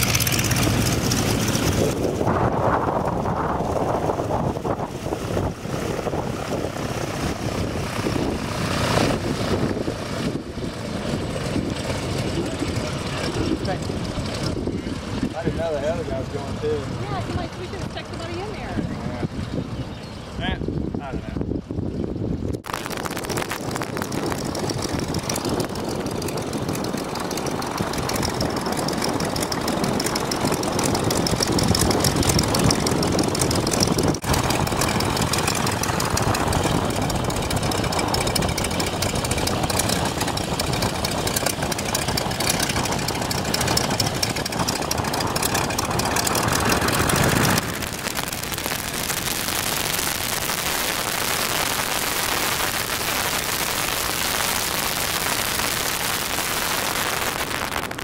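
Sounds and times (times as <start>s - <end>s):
propeller wash on microphone: 0.0s - 18.9s, 22.6s - 58.0s
propeller plane engine running: 0.0s - 58.0s.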